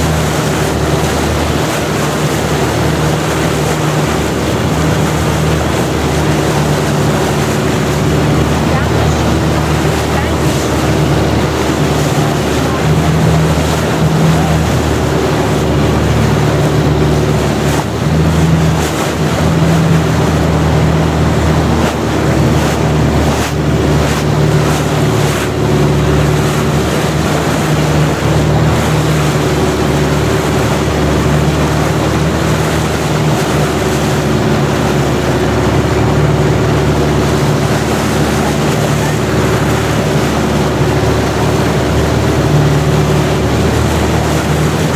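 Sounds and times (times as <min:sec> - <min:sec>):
boat engine running: 0:00.0 - 0:44.9
water rushing past hull: 0:00.0 - 0:44.9.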